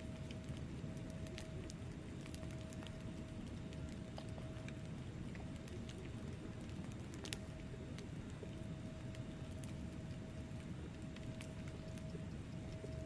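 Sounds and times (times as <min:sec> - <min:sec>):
fire flames rumbling: 0:00.0 - 0:13.0
wood fire crackling and popping: 0:00.0 - 0:13.0.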